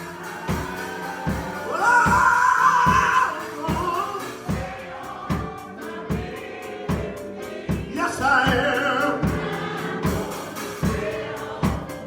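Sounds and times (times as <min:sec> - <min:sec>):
gospel music: 0:00.0 - 0:12.0
steady drum beat: 0:00.0 - 0:12.0.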